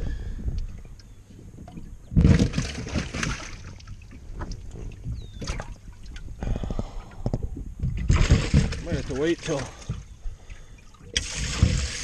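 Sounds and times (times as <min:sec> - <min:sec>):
water splashing and sloshing: 0:00.5 - 0:12.0.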